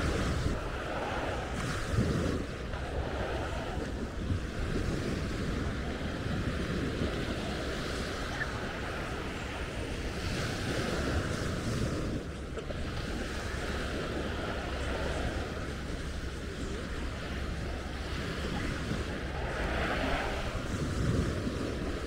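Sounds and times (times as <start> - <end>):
small waves washing onto sand: 0.0 - 22.0
wind rumbling on microphone: 0.0 - 22.0.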